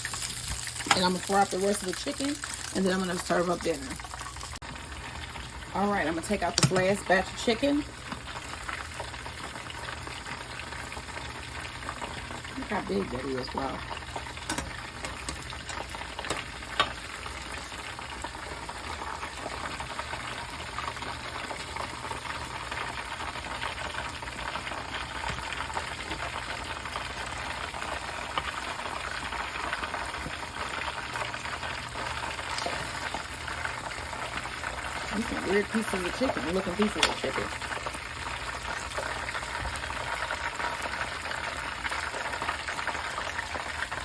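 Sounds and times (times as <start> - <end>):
chicken deep-frying in oil: 0.0 - 44.0.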